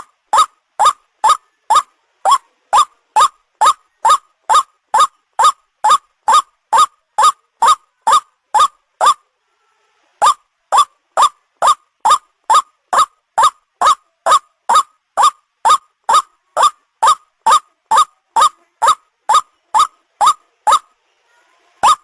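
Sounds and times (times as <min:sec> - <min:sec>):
waterhen calling: 0:00.0 - 0:09.2, 0:10.2 - 0:20.9.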